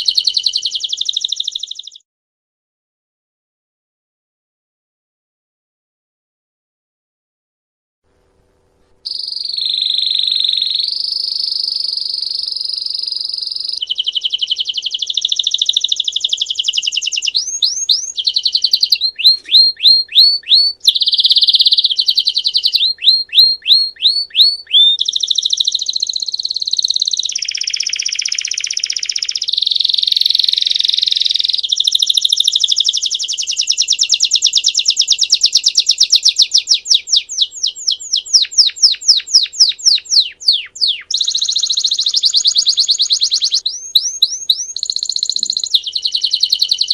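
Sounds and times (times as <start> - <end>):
canary singing trills: 0.0 - 2.0, 9.1 - 46.9.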